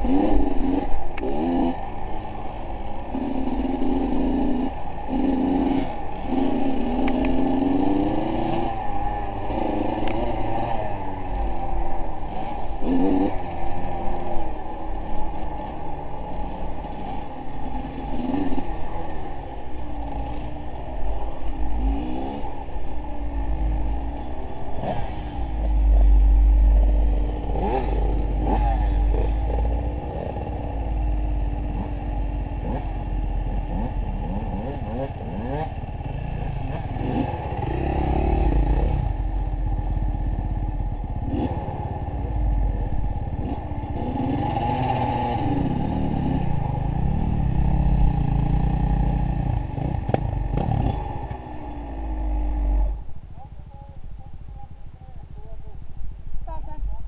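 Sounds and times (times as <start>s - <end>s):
vehicle engine revving: 0.0s - 53.1s.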